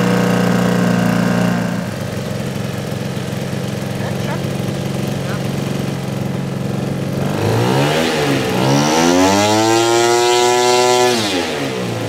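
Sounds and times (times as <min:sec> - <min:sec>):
model plane engine and propeller: 0:00.0 - 0:12.0.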